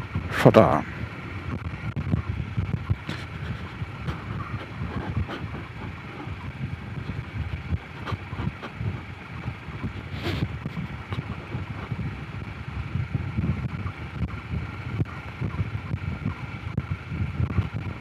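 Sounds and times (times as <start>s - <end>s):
motorcycle engine running: 0.0s - 18.0s
wind buffeting microphone: 0.0s - 18.0s.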